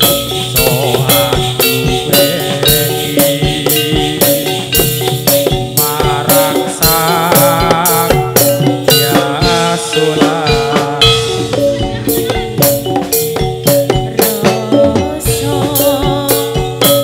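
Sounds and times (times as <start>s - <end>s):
drums beating steady rhythm: 0.0s - 17.0s
pitched melodic instruments: 0.0s - 17.0s.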